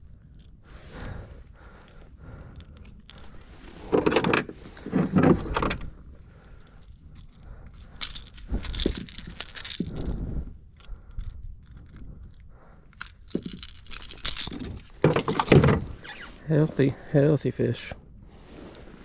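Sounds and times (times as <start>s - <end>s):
gear clinking and rattling: 0.1s - 16.3s.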